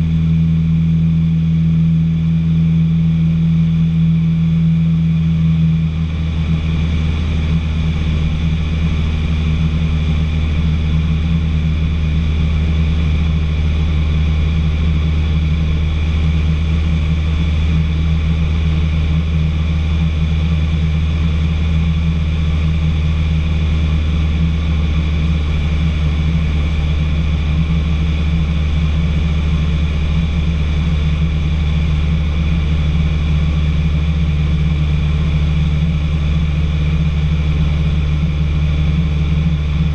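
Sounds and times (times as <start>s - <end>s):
aeroplane engine droning: 0.0s - 39.9s.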